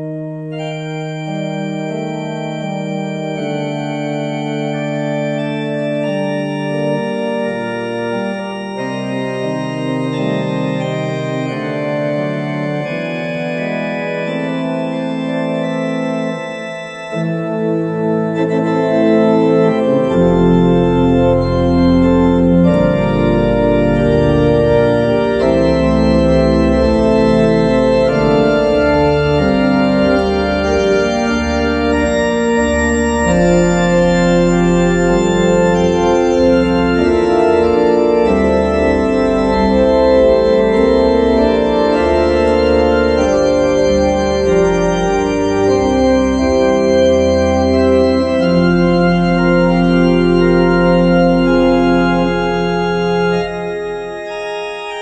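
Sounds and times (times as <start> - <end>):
church organ chords: 0.0 - 55.0
deep organ pedal bass notes: 0.0 - 55.0.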